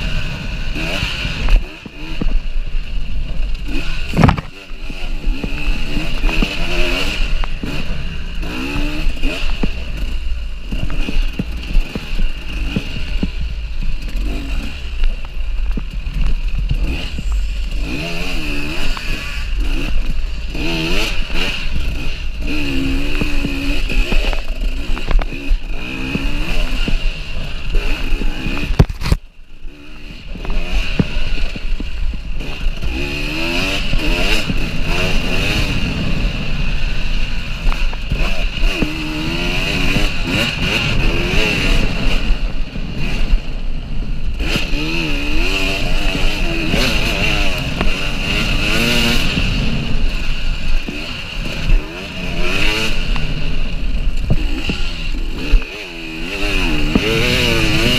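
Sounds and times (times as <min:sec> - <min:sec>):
two-stroke engine revving: 0:00.0 - 0:57.9.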